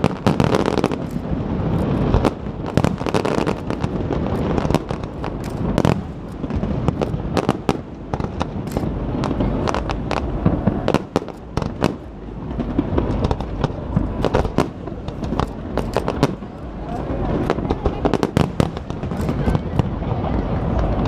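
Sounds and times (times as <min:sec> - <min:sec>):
continuous low rumble: 0:00.0 - 0:21.0
fireworks bangs and crackles: 0:00.0 - 0:21.0.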